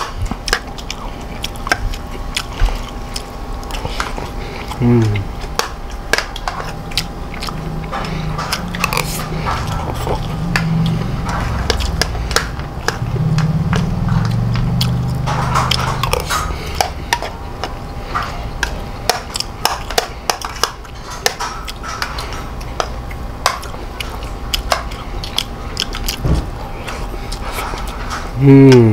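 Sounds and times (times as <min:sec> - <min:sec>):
low throat hum: 0:00.0 - 0:28.9
person chewing: 0:00.0 - 0:28.9.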